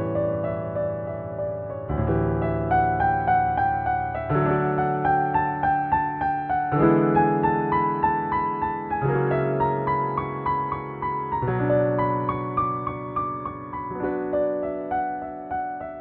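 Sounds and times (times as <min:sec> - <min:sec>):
slow solo piano piece: 0:00.0 - 0:16.0.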